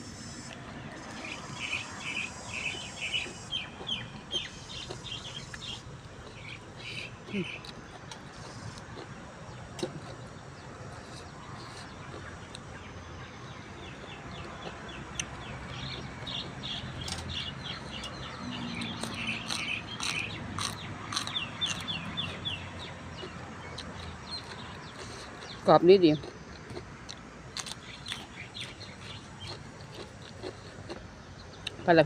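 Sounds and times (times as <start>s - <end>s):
bird chirping: 0.1s - 7.7s, 9.5s - 26.3s, 27.6s - 30.3s
person chewing crisp vegetables: 0.1s - 13.3s, 14.0s - 31.9s.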